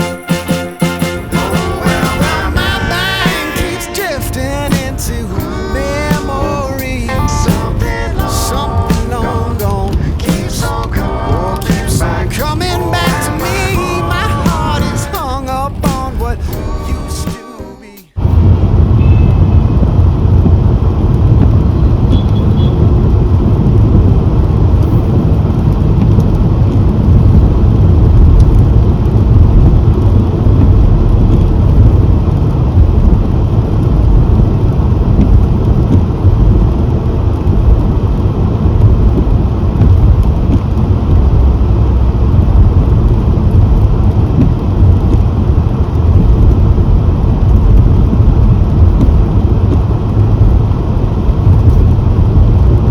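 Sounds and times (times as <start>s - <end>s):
car driving rumble: 2.2s - 17.2s, 18.2s - 52.9s.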